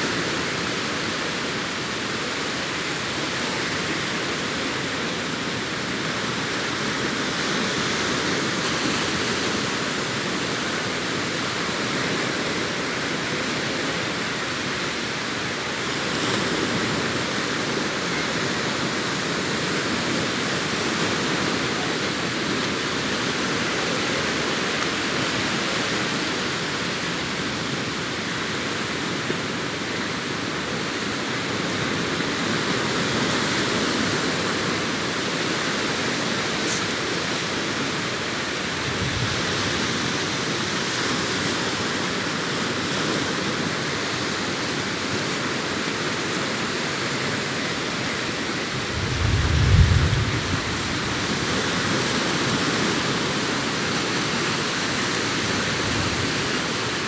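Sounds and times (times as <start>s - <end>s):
sea waves washing on beach: 0.0s - 57.0s.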